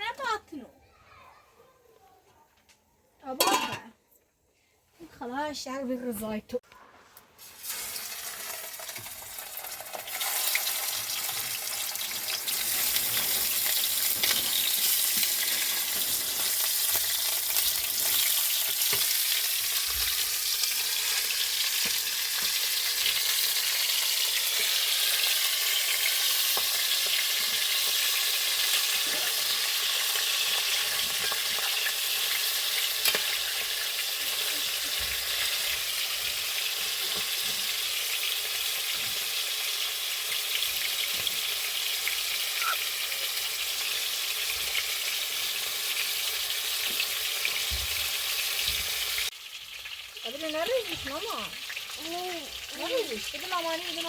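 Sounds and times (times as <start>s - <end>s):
food sizzling in a pan: 7.0s - 54.0s.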